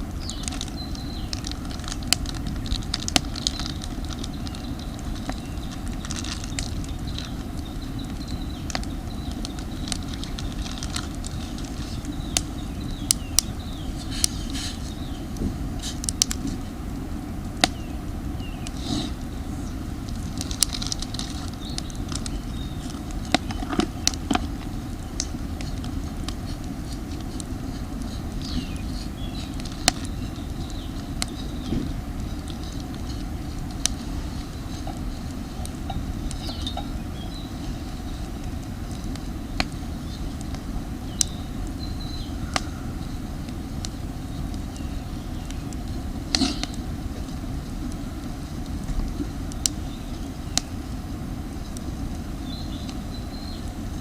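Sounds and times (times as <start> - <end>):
campfire crackling and popping: 0.0 - 54.0
fire low rumble: 0.0 - 54.0.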